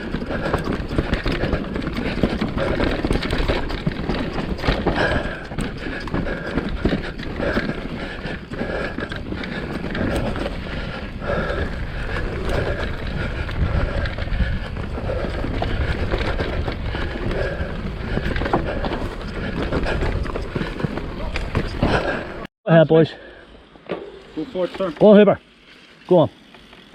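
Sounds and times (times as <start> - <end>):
bike rattling: 0.0 - 22.5, 23.9 - 26.9
tyres rumbling over dirt: 0.0 - 22.5
wind buffeting microphone: 0.0 - 22.5.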